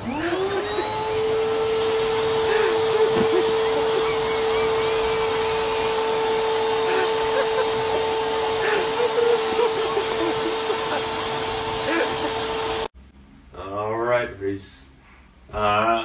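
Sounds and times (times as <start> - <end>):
vacuum cleaner motor whine: 0.0 - 12.9.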